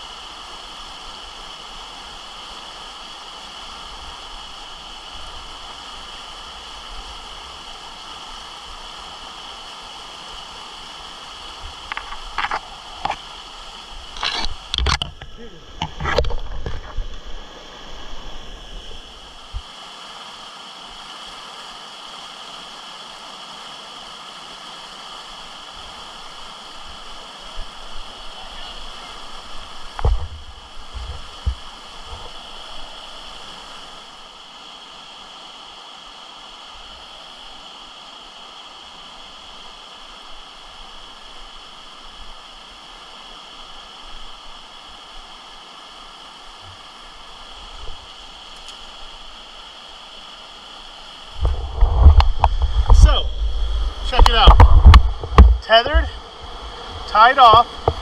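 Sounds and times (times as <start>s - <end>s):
whitewater rapids rushing: 0.0s - 15.9s, 17.0s - 58.0s.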